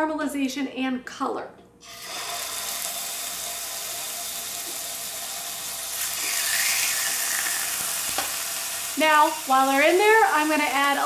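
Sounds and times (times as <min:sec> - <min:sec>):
chicken sizzling in a pan: 0:01.8 - 0:11.0.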